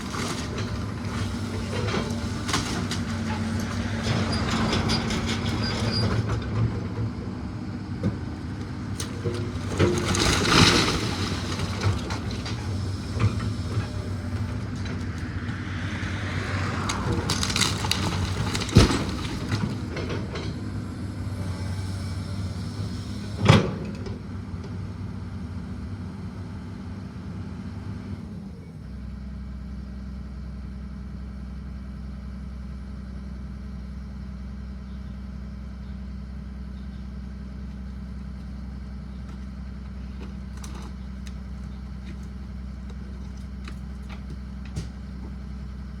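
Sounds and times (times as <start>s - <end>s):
heavy machine engine: 0.0s - 46.0s.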